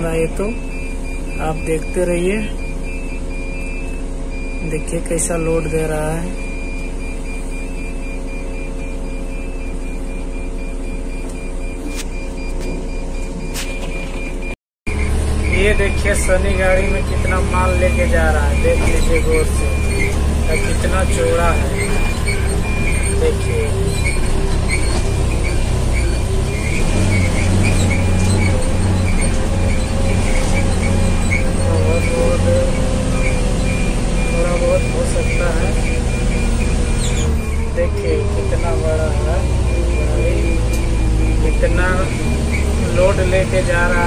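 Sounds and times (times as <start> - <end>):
heavy diesel engines running: 0.0 - 44.0
high beeping alarm: 0.0 - 44.0.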